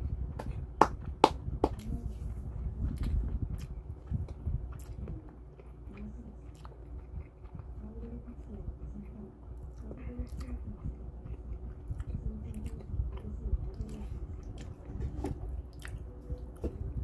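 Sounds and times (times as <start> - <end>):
person chewing food: 0.3 - 17.0.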